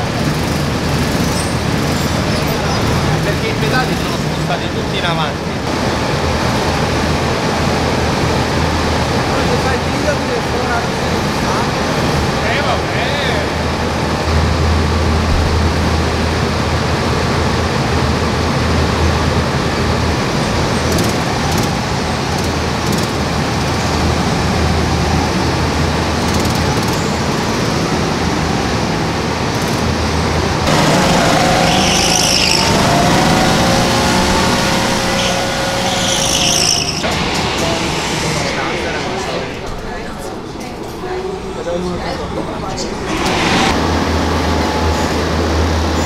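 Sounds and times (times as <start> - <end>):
go-kart engines: 0.0 - 46.0.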